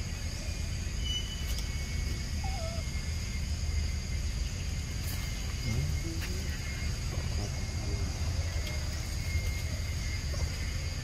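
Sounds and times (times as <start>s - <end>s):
high insect drone: 0.0s - 11.0s
faint wavering squeak: 0.4s - 3.4s, 5.2s - 11.0s.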